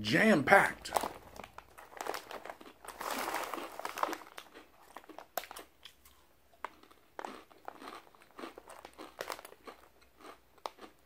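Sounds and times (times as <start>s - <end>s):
chip bag crinkling: 0.8s - 11.0s
chips crunching: 0.8s - 11.0s.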